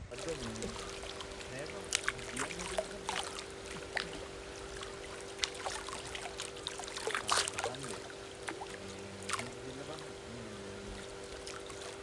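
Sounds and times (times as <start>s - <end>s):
faint hum: 0.0s - 12.0s
water splashing in a pool: 0.0s - 12.0s.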